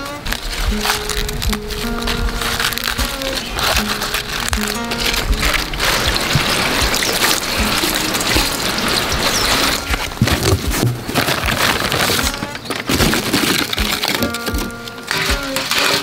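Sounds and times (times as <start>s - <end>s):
cardboard box rustling and crinkling: 0.0s - 16.0s
water gushing from hose: 0.0s - 16.0s
water splashing over leaves: 0.0s - 16.0s.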